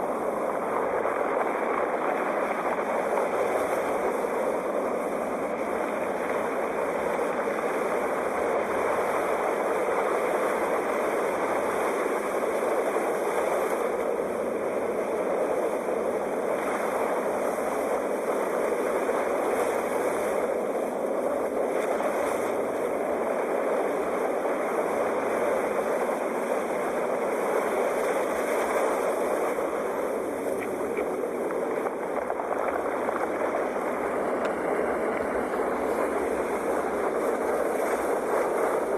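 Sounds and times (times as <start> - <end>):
sea waves rushing: 0.0 - 38.9.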